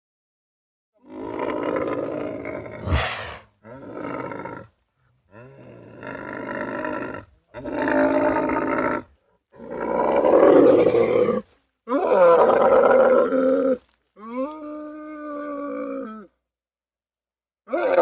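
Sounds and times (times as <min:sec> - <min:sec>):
roars: 0:01.0 - 0:04.7, 0:05.3 - 0:16.4, 0:17.7 - 0:18.0.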